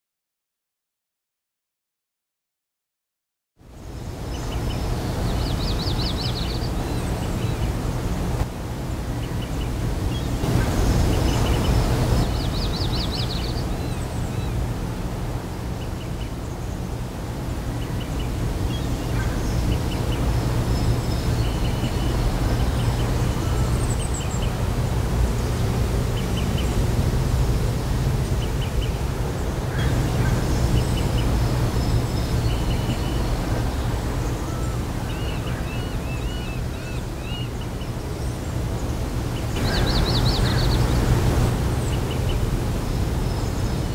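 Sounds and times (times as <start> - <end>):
birds chirping and trilling: 3.8 - 8.4, 9.1 - 43.9.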